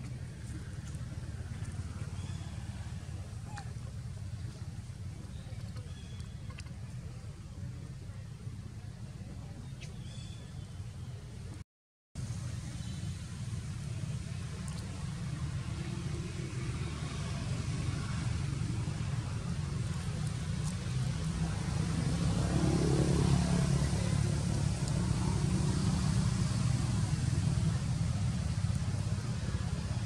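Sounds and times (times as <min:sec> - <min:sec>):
low steady rumble: 0:00.0 - 0:11.6, 0:12.2 - 0:30.0.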